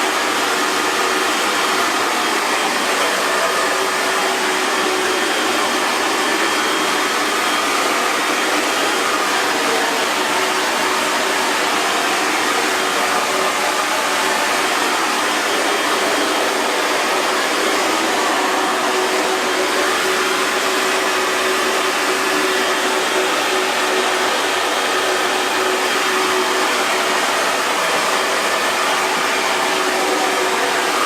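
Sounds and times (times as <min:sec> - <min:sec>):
hair dryer running: 0:00.0 - 0:31.0.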